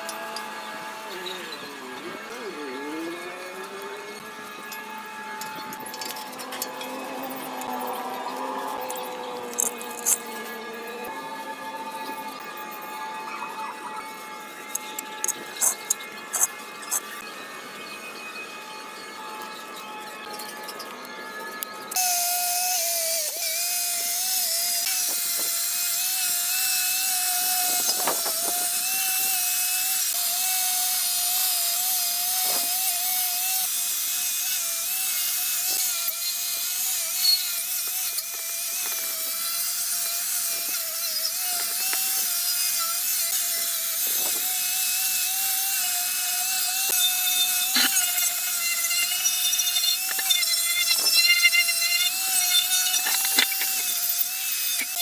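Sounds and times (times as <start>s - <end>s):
power tool high whine: 0.0s - 55.0s.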